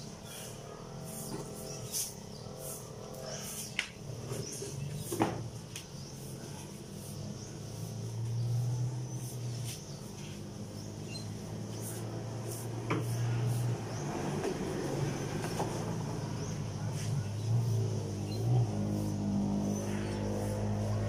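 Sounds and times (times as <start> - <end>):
broom sweeping a floor: 0.1 - 21.0.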